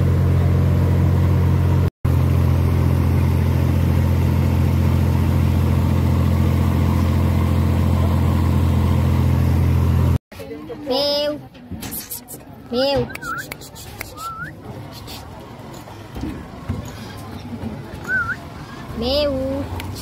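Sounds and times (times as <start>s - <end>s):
boat engine droning: 0.0s - 10.2s, 13.1s - 20.0s.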